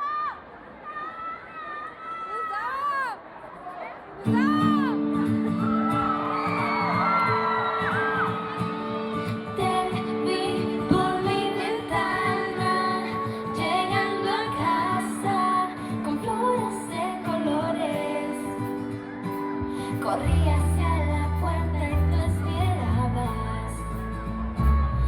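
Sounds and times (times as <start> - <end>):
audience screaming: 0.0 - 20.2
live pop band music: 4.4 - 25.0.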